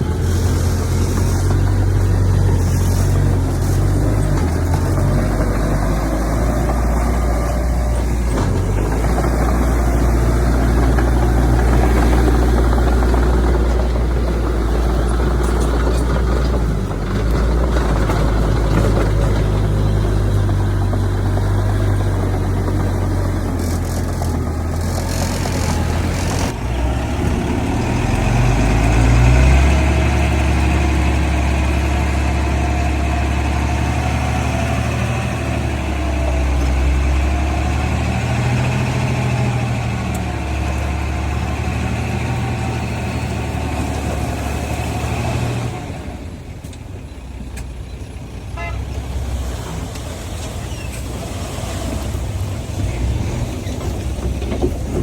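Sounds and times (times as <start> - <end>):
heavy diesel machine running: 0.0 - 55.0.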